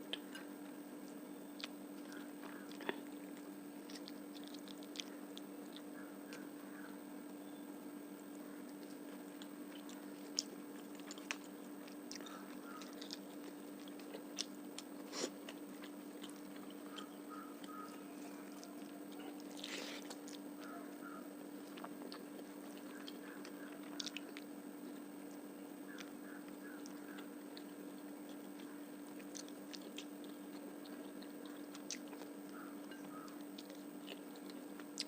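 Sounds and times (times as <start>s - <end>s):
chewing food: 0.0s - 7.0s, 8.3s - 35.0s.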